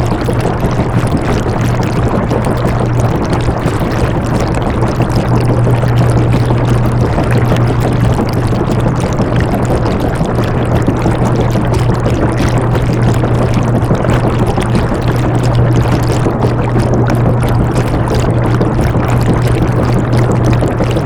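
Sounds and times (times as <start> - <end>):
washing machine churning: 0.0 - 21.0.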